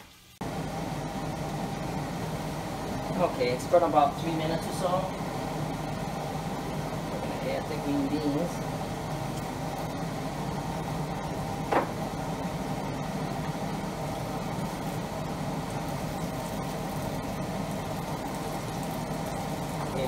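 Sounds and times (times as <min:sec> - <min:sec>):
kitchen hum and hiss: 0:00.0 - 0:20.0.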